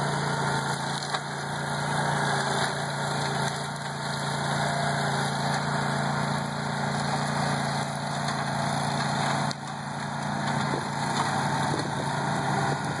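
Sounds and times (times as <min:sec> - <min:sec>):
flail mower engine running: 0:00.0 - 0:13.0.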